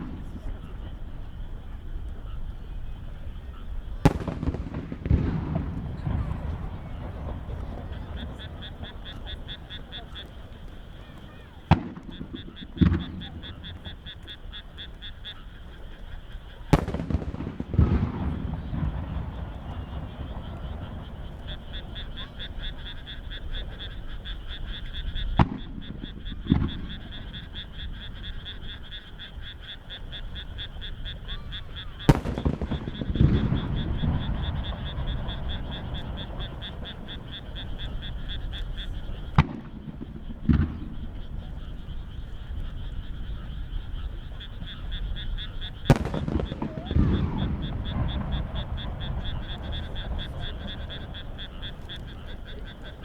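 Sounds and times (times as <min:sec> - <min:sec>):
deep firework booms: 0:00.0 - 0:14.6, 0:16.5 - 0:29.5, 0:30.1 - 0:53.0
firework bangs: 0:00.0 - 0:53.0
frogs calling: 0:00.0 - 0:53.0.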